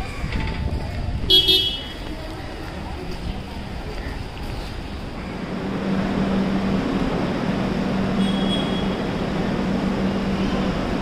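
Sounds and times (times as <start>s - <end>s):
low hum of standing trains: 0.0s - 11.0s.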